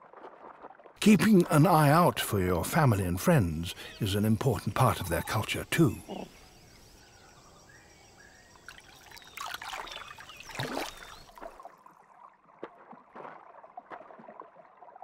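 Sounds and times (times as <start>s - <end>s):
water splashing and trickling: 0.0s - 6.4s, 8.5s - 15.0s.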